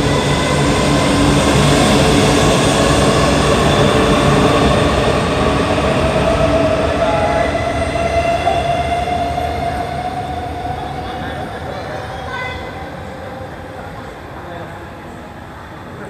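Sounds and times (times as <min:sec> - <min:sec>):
train rumbling past with rising whine: 0:00.0 - 0:16.0.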